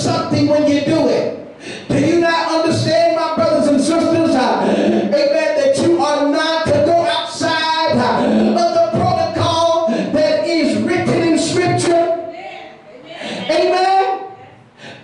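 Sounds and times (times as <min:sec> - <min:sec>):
man preaching in a chanted cadence: 0:00.0 - 0:12.3.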